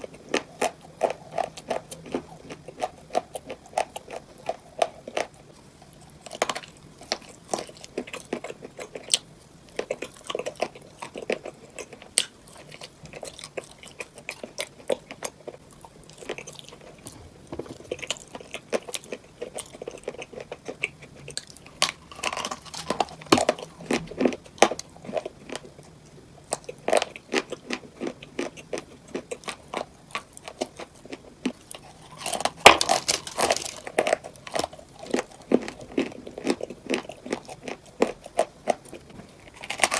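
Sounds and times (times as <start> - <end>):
crunchy cupcakes being chewed: 0.0 - 39.9.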